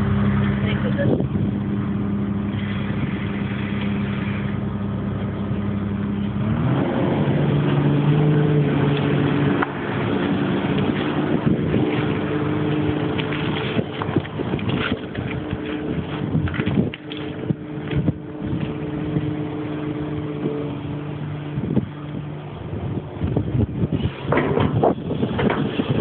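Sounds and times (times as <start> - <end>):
excavator diesel engine revving: 0.0 - 26.0.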